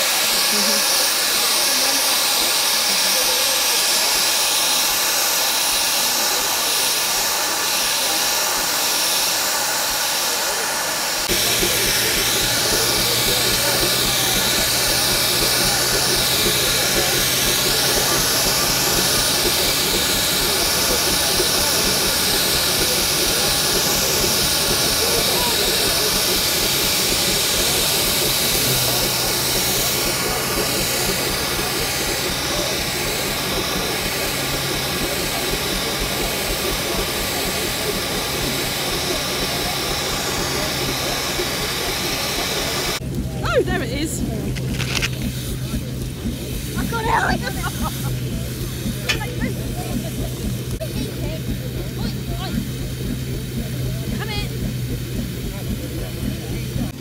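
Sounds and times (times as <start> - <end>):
steam engine hissing: 0.0 - 57.0.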